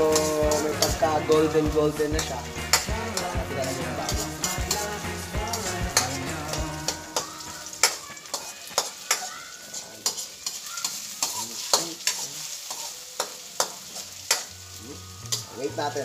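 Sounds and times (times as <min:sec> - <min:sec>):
spatula scraping a wok: 0:00.0 - 0:14.5
onions sizzling in hot oil: 0:00.0 - 0:16.0.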